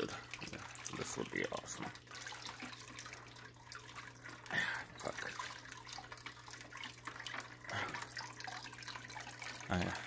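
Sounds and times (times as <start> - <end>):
water trickling into a tank: 0.0 - 10.0.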